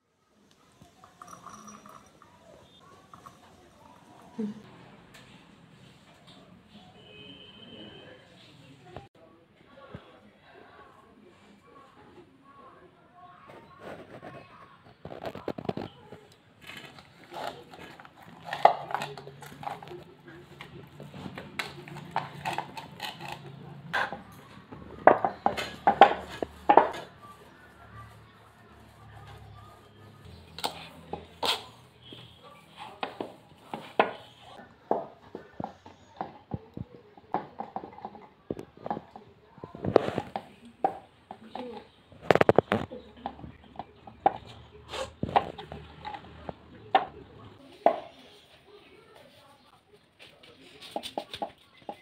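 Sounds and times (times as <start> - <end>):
soft dough handling sounds: 0.3 - 52.0.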